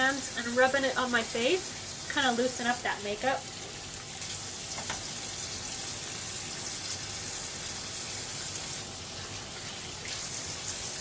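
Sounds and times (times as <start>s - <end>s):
sink tap running: 0.0s - 11.0s.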